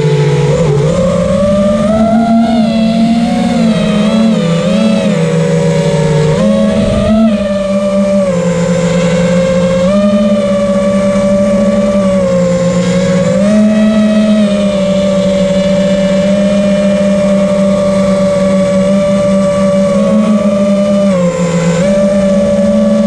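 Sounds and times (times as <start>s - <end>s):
quadcopter motors buzzing: 0.0s - 23.0s.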